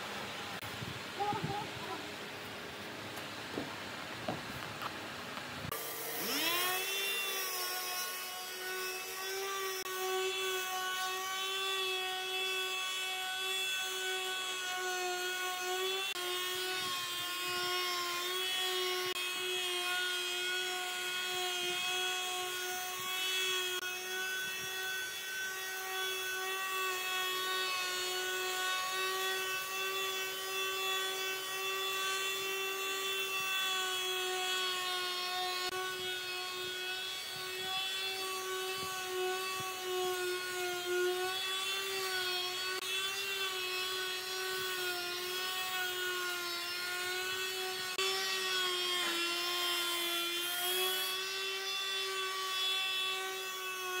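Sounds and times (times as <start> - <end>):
power tool motor whining: 5.7 - 54.0.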